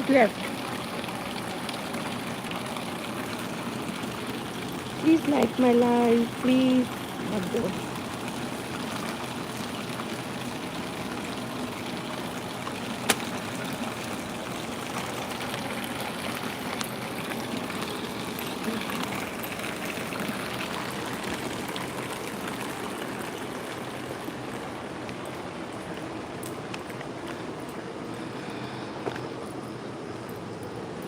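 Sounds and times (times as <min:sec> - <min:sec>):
water running: 0:00.0 - 0:28.2.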